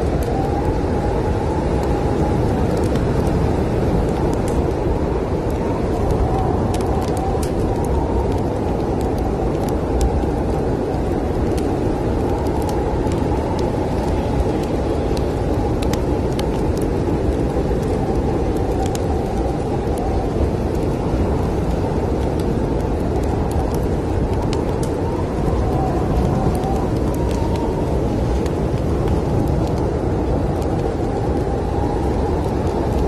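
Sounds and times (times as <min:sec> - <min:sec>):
wind rushing and whistling: 0:00.0 - 0:33.0
wood fire crackling: 0:00.0 - 0:33.0.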